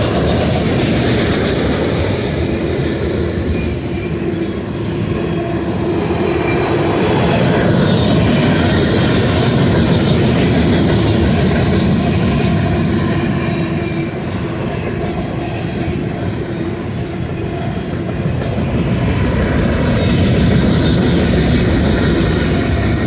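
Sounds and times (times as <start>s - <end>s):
freight train wheels rumbling on rail: 0.0s - 23.0s
train wheels clacking: 0.0s - 23.0s.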